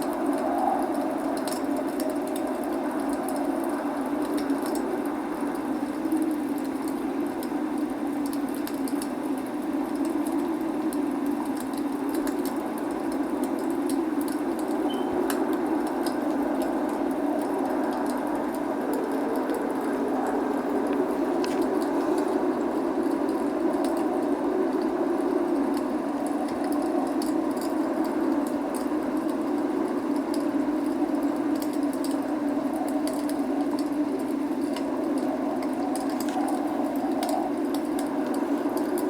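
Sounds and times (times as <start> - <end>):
log fire crackling: 0.0 - 39.0
rain rushing: 0.0 - 39.0.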